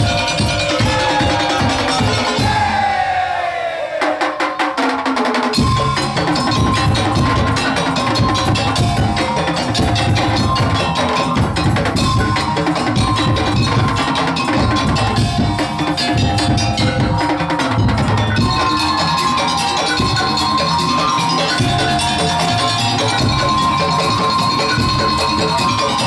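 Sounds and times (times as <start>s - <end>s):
slit drums and drums: 0.0s - 26.0s.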